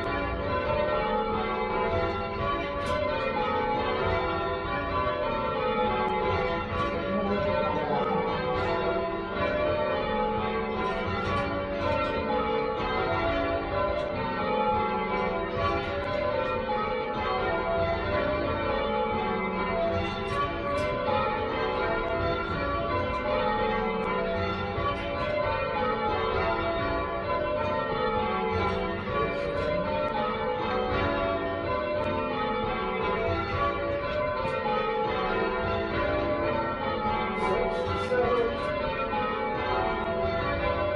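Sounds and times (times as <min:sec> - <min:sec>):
church tower bells ringing: 0:00.0 - 0:40.9.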